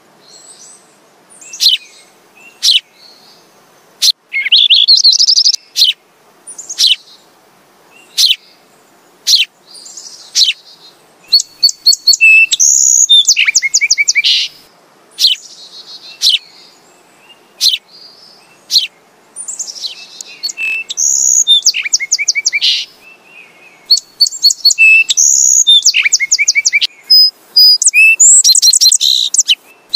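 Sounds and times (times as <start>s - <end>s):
sparrows chirping: 1.4s - 3.5s, 4.3s - 7.2s, 8.0s - 8.6s, 9.3s - 14.6s, 15.2s - 29.9s.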